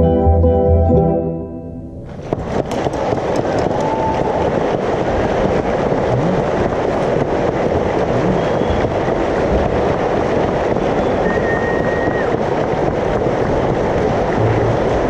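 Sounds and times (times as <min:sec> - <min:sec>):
audience applauding: 0:02.2 - 0:15.0.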